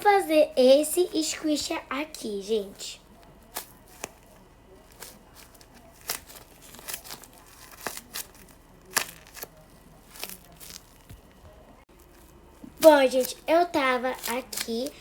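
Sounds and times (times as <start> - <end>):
paper and cling film crinkling: 2.6 - 15.0.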